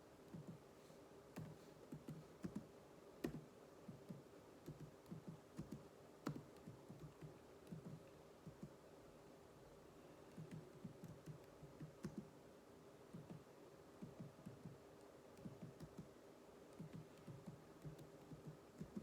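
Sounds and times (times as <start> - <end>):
faint keyboard typing: 0.2 - 8.8, 10.2 - 12.4, 13.1 - 19.0.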